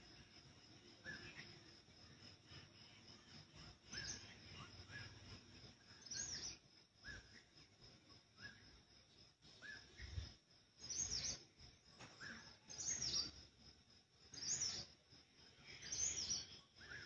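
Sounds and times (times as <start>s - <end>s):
lower bird chirps: 0.0s - 13.6s, 14.2s - 17.0s.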